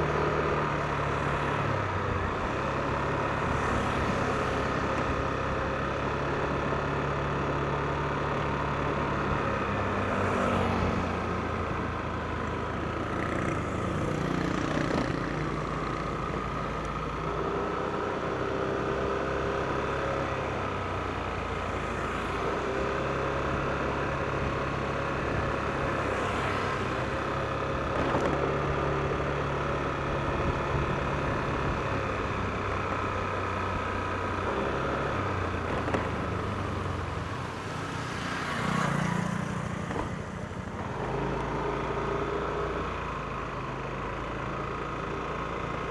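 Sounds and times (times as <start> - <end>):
road noise: 0.0 - 45.9
scooter engine running: 0.0 - 45.9.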